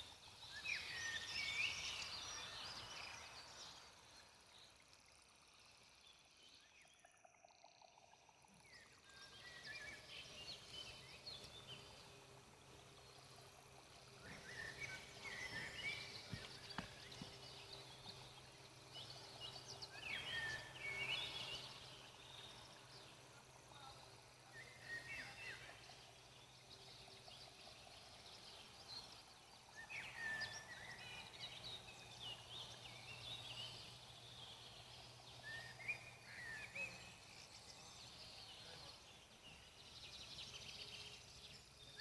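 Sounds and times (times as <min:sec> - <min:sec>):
forest birds chirping: 0:00.0 - 0:42.0.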